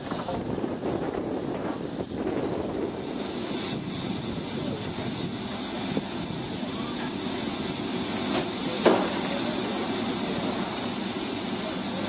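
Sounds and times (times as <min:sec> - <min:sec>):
hiss of steam: 0:00.0 - 0:12.0
steam locomotive running: 0:00.0 - 0:12.0.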